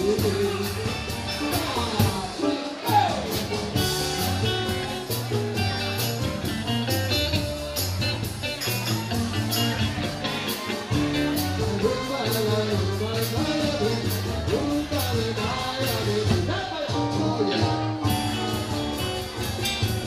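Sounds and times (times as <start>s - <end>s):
drum kit beat: 0.0s - 20.0s
electric guitar: 0.0s - 20.0s
keyboard: 0.0s - 20.0s
low bass line: 0.0s - 20.0s.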